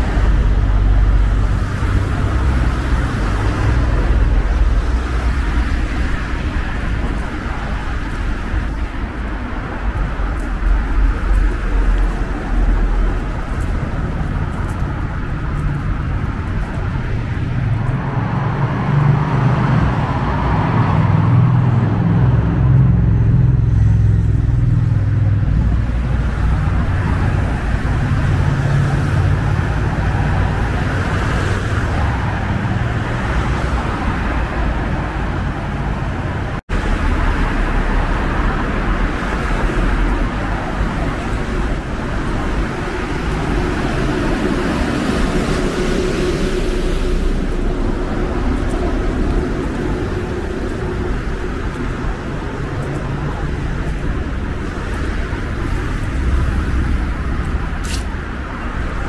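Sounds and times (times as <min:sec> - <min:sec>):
road traffic rumble: 0:00.0 - 0:59.0
vehicle passing close: 0:09.3 - 0:59.0.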